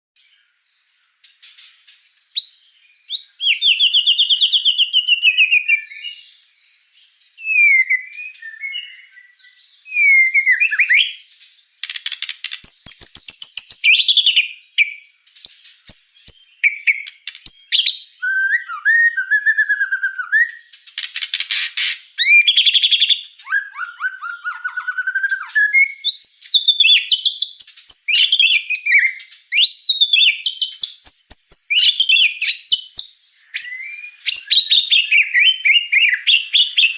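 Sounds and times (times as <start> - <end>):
songbird whistles and trills: 1.2 - 36.9.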